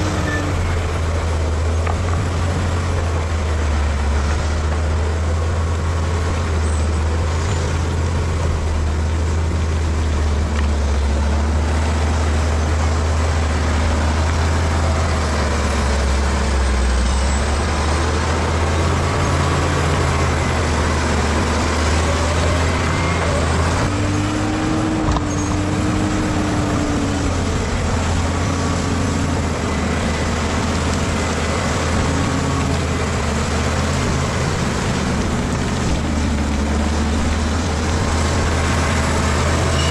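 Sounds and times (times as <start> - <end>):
bulldozer diesel engine rumbling: 0.0 - 39.9.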